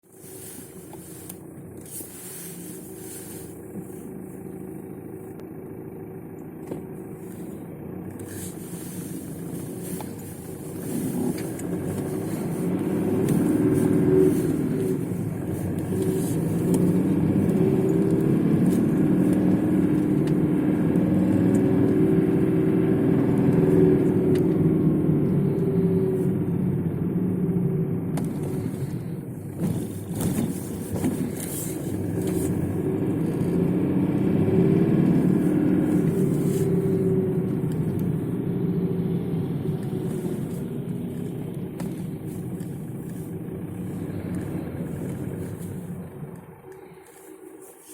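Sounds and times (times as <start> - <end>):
diesel engine running with knock: 0.0 - 47.9.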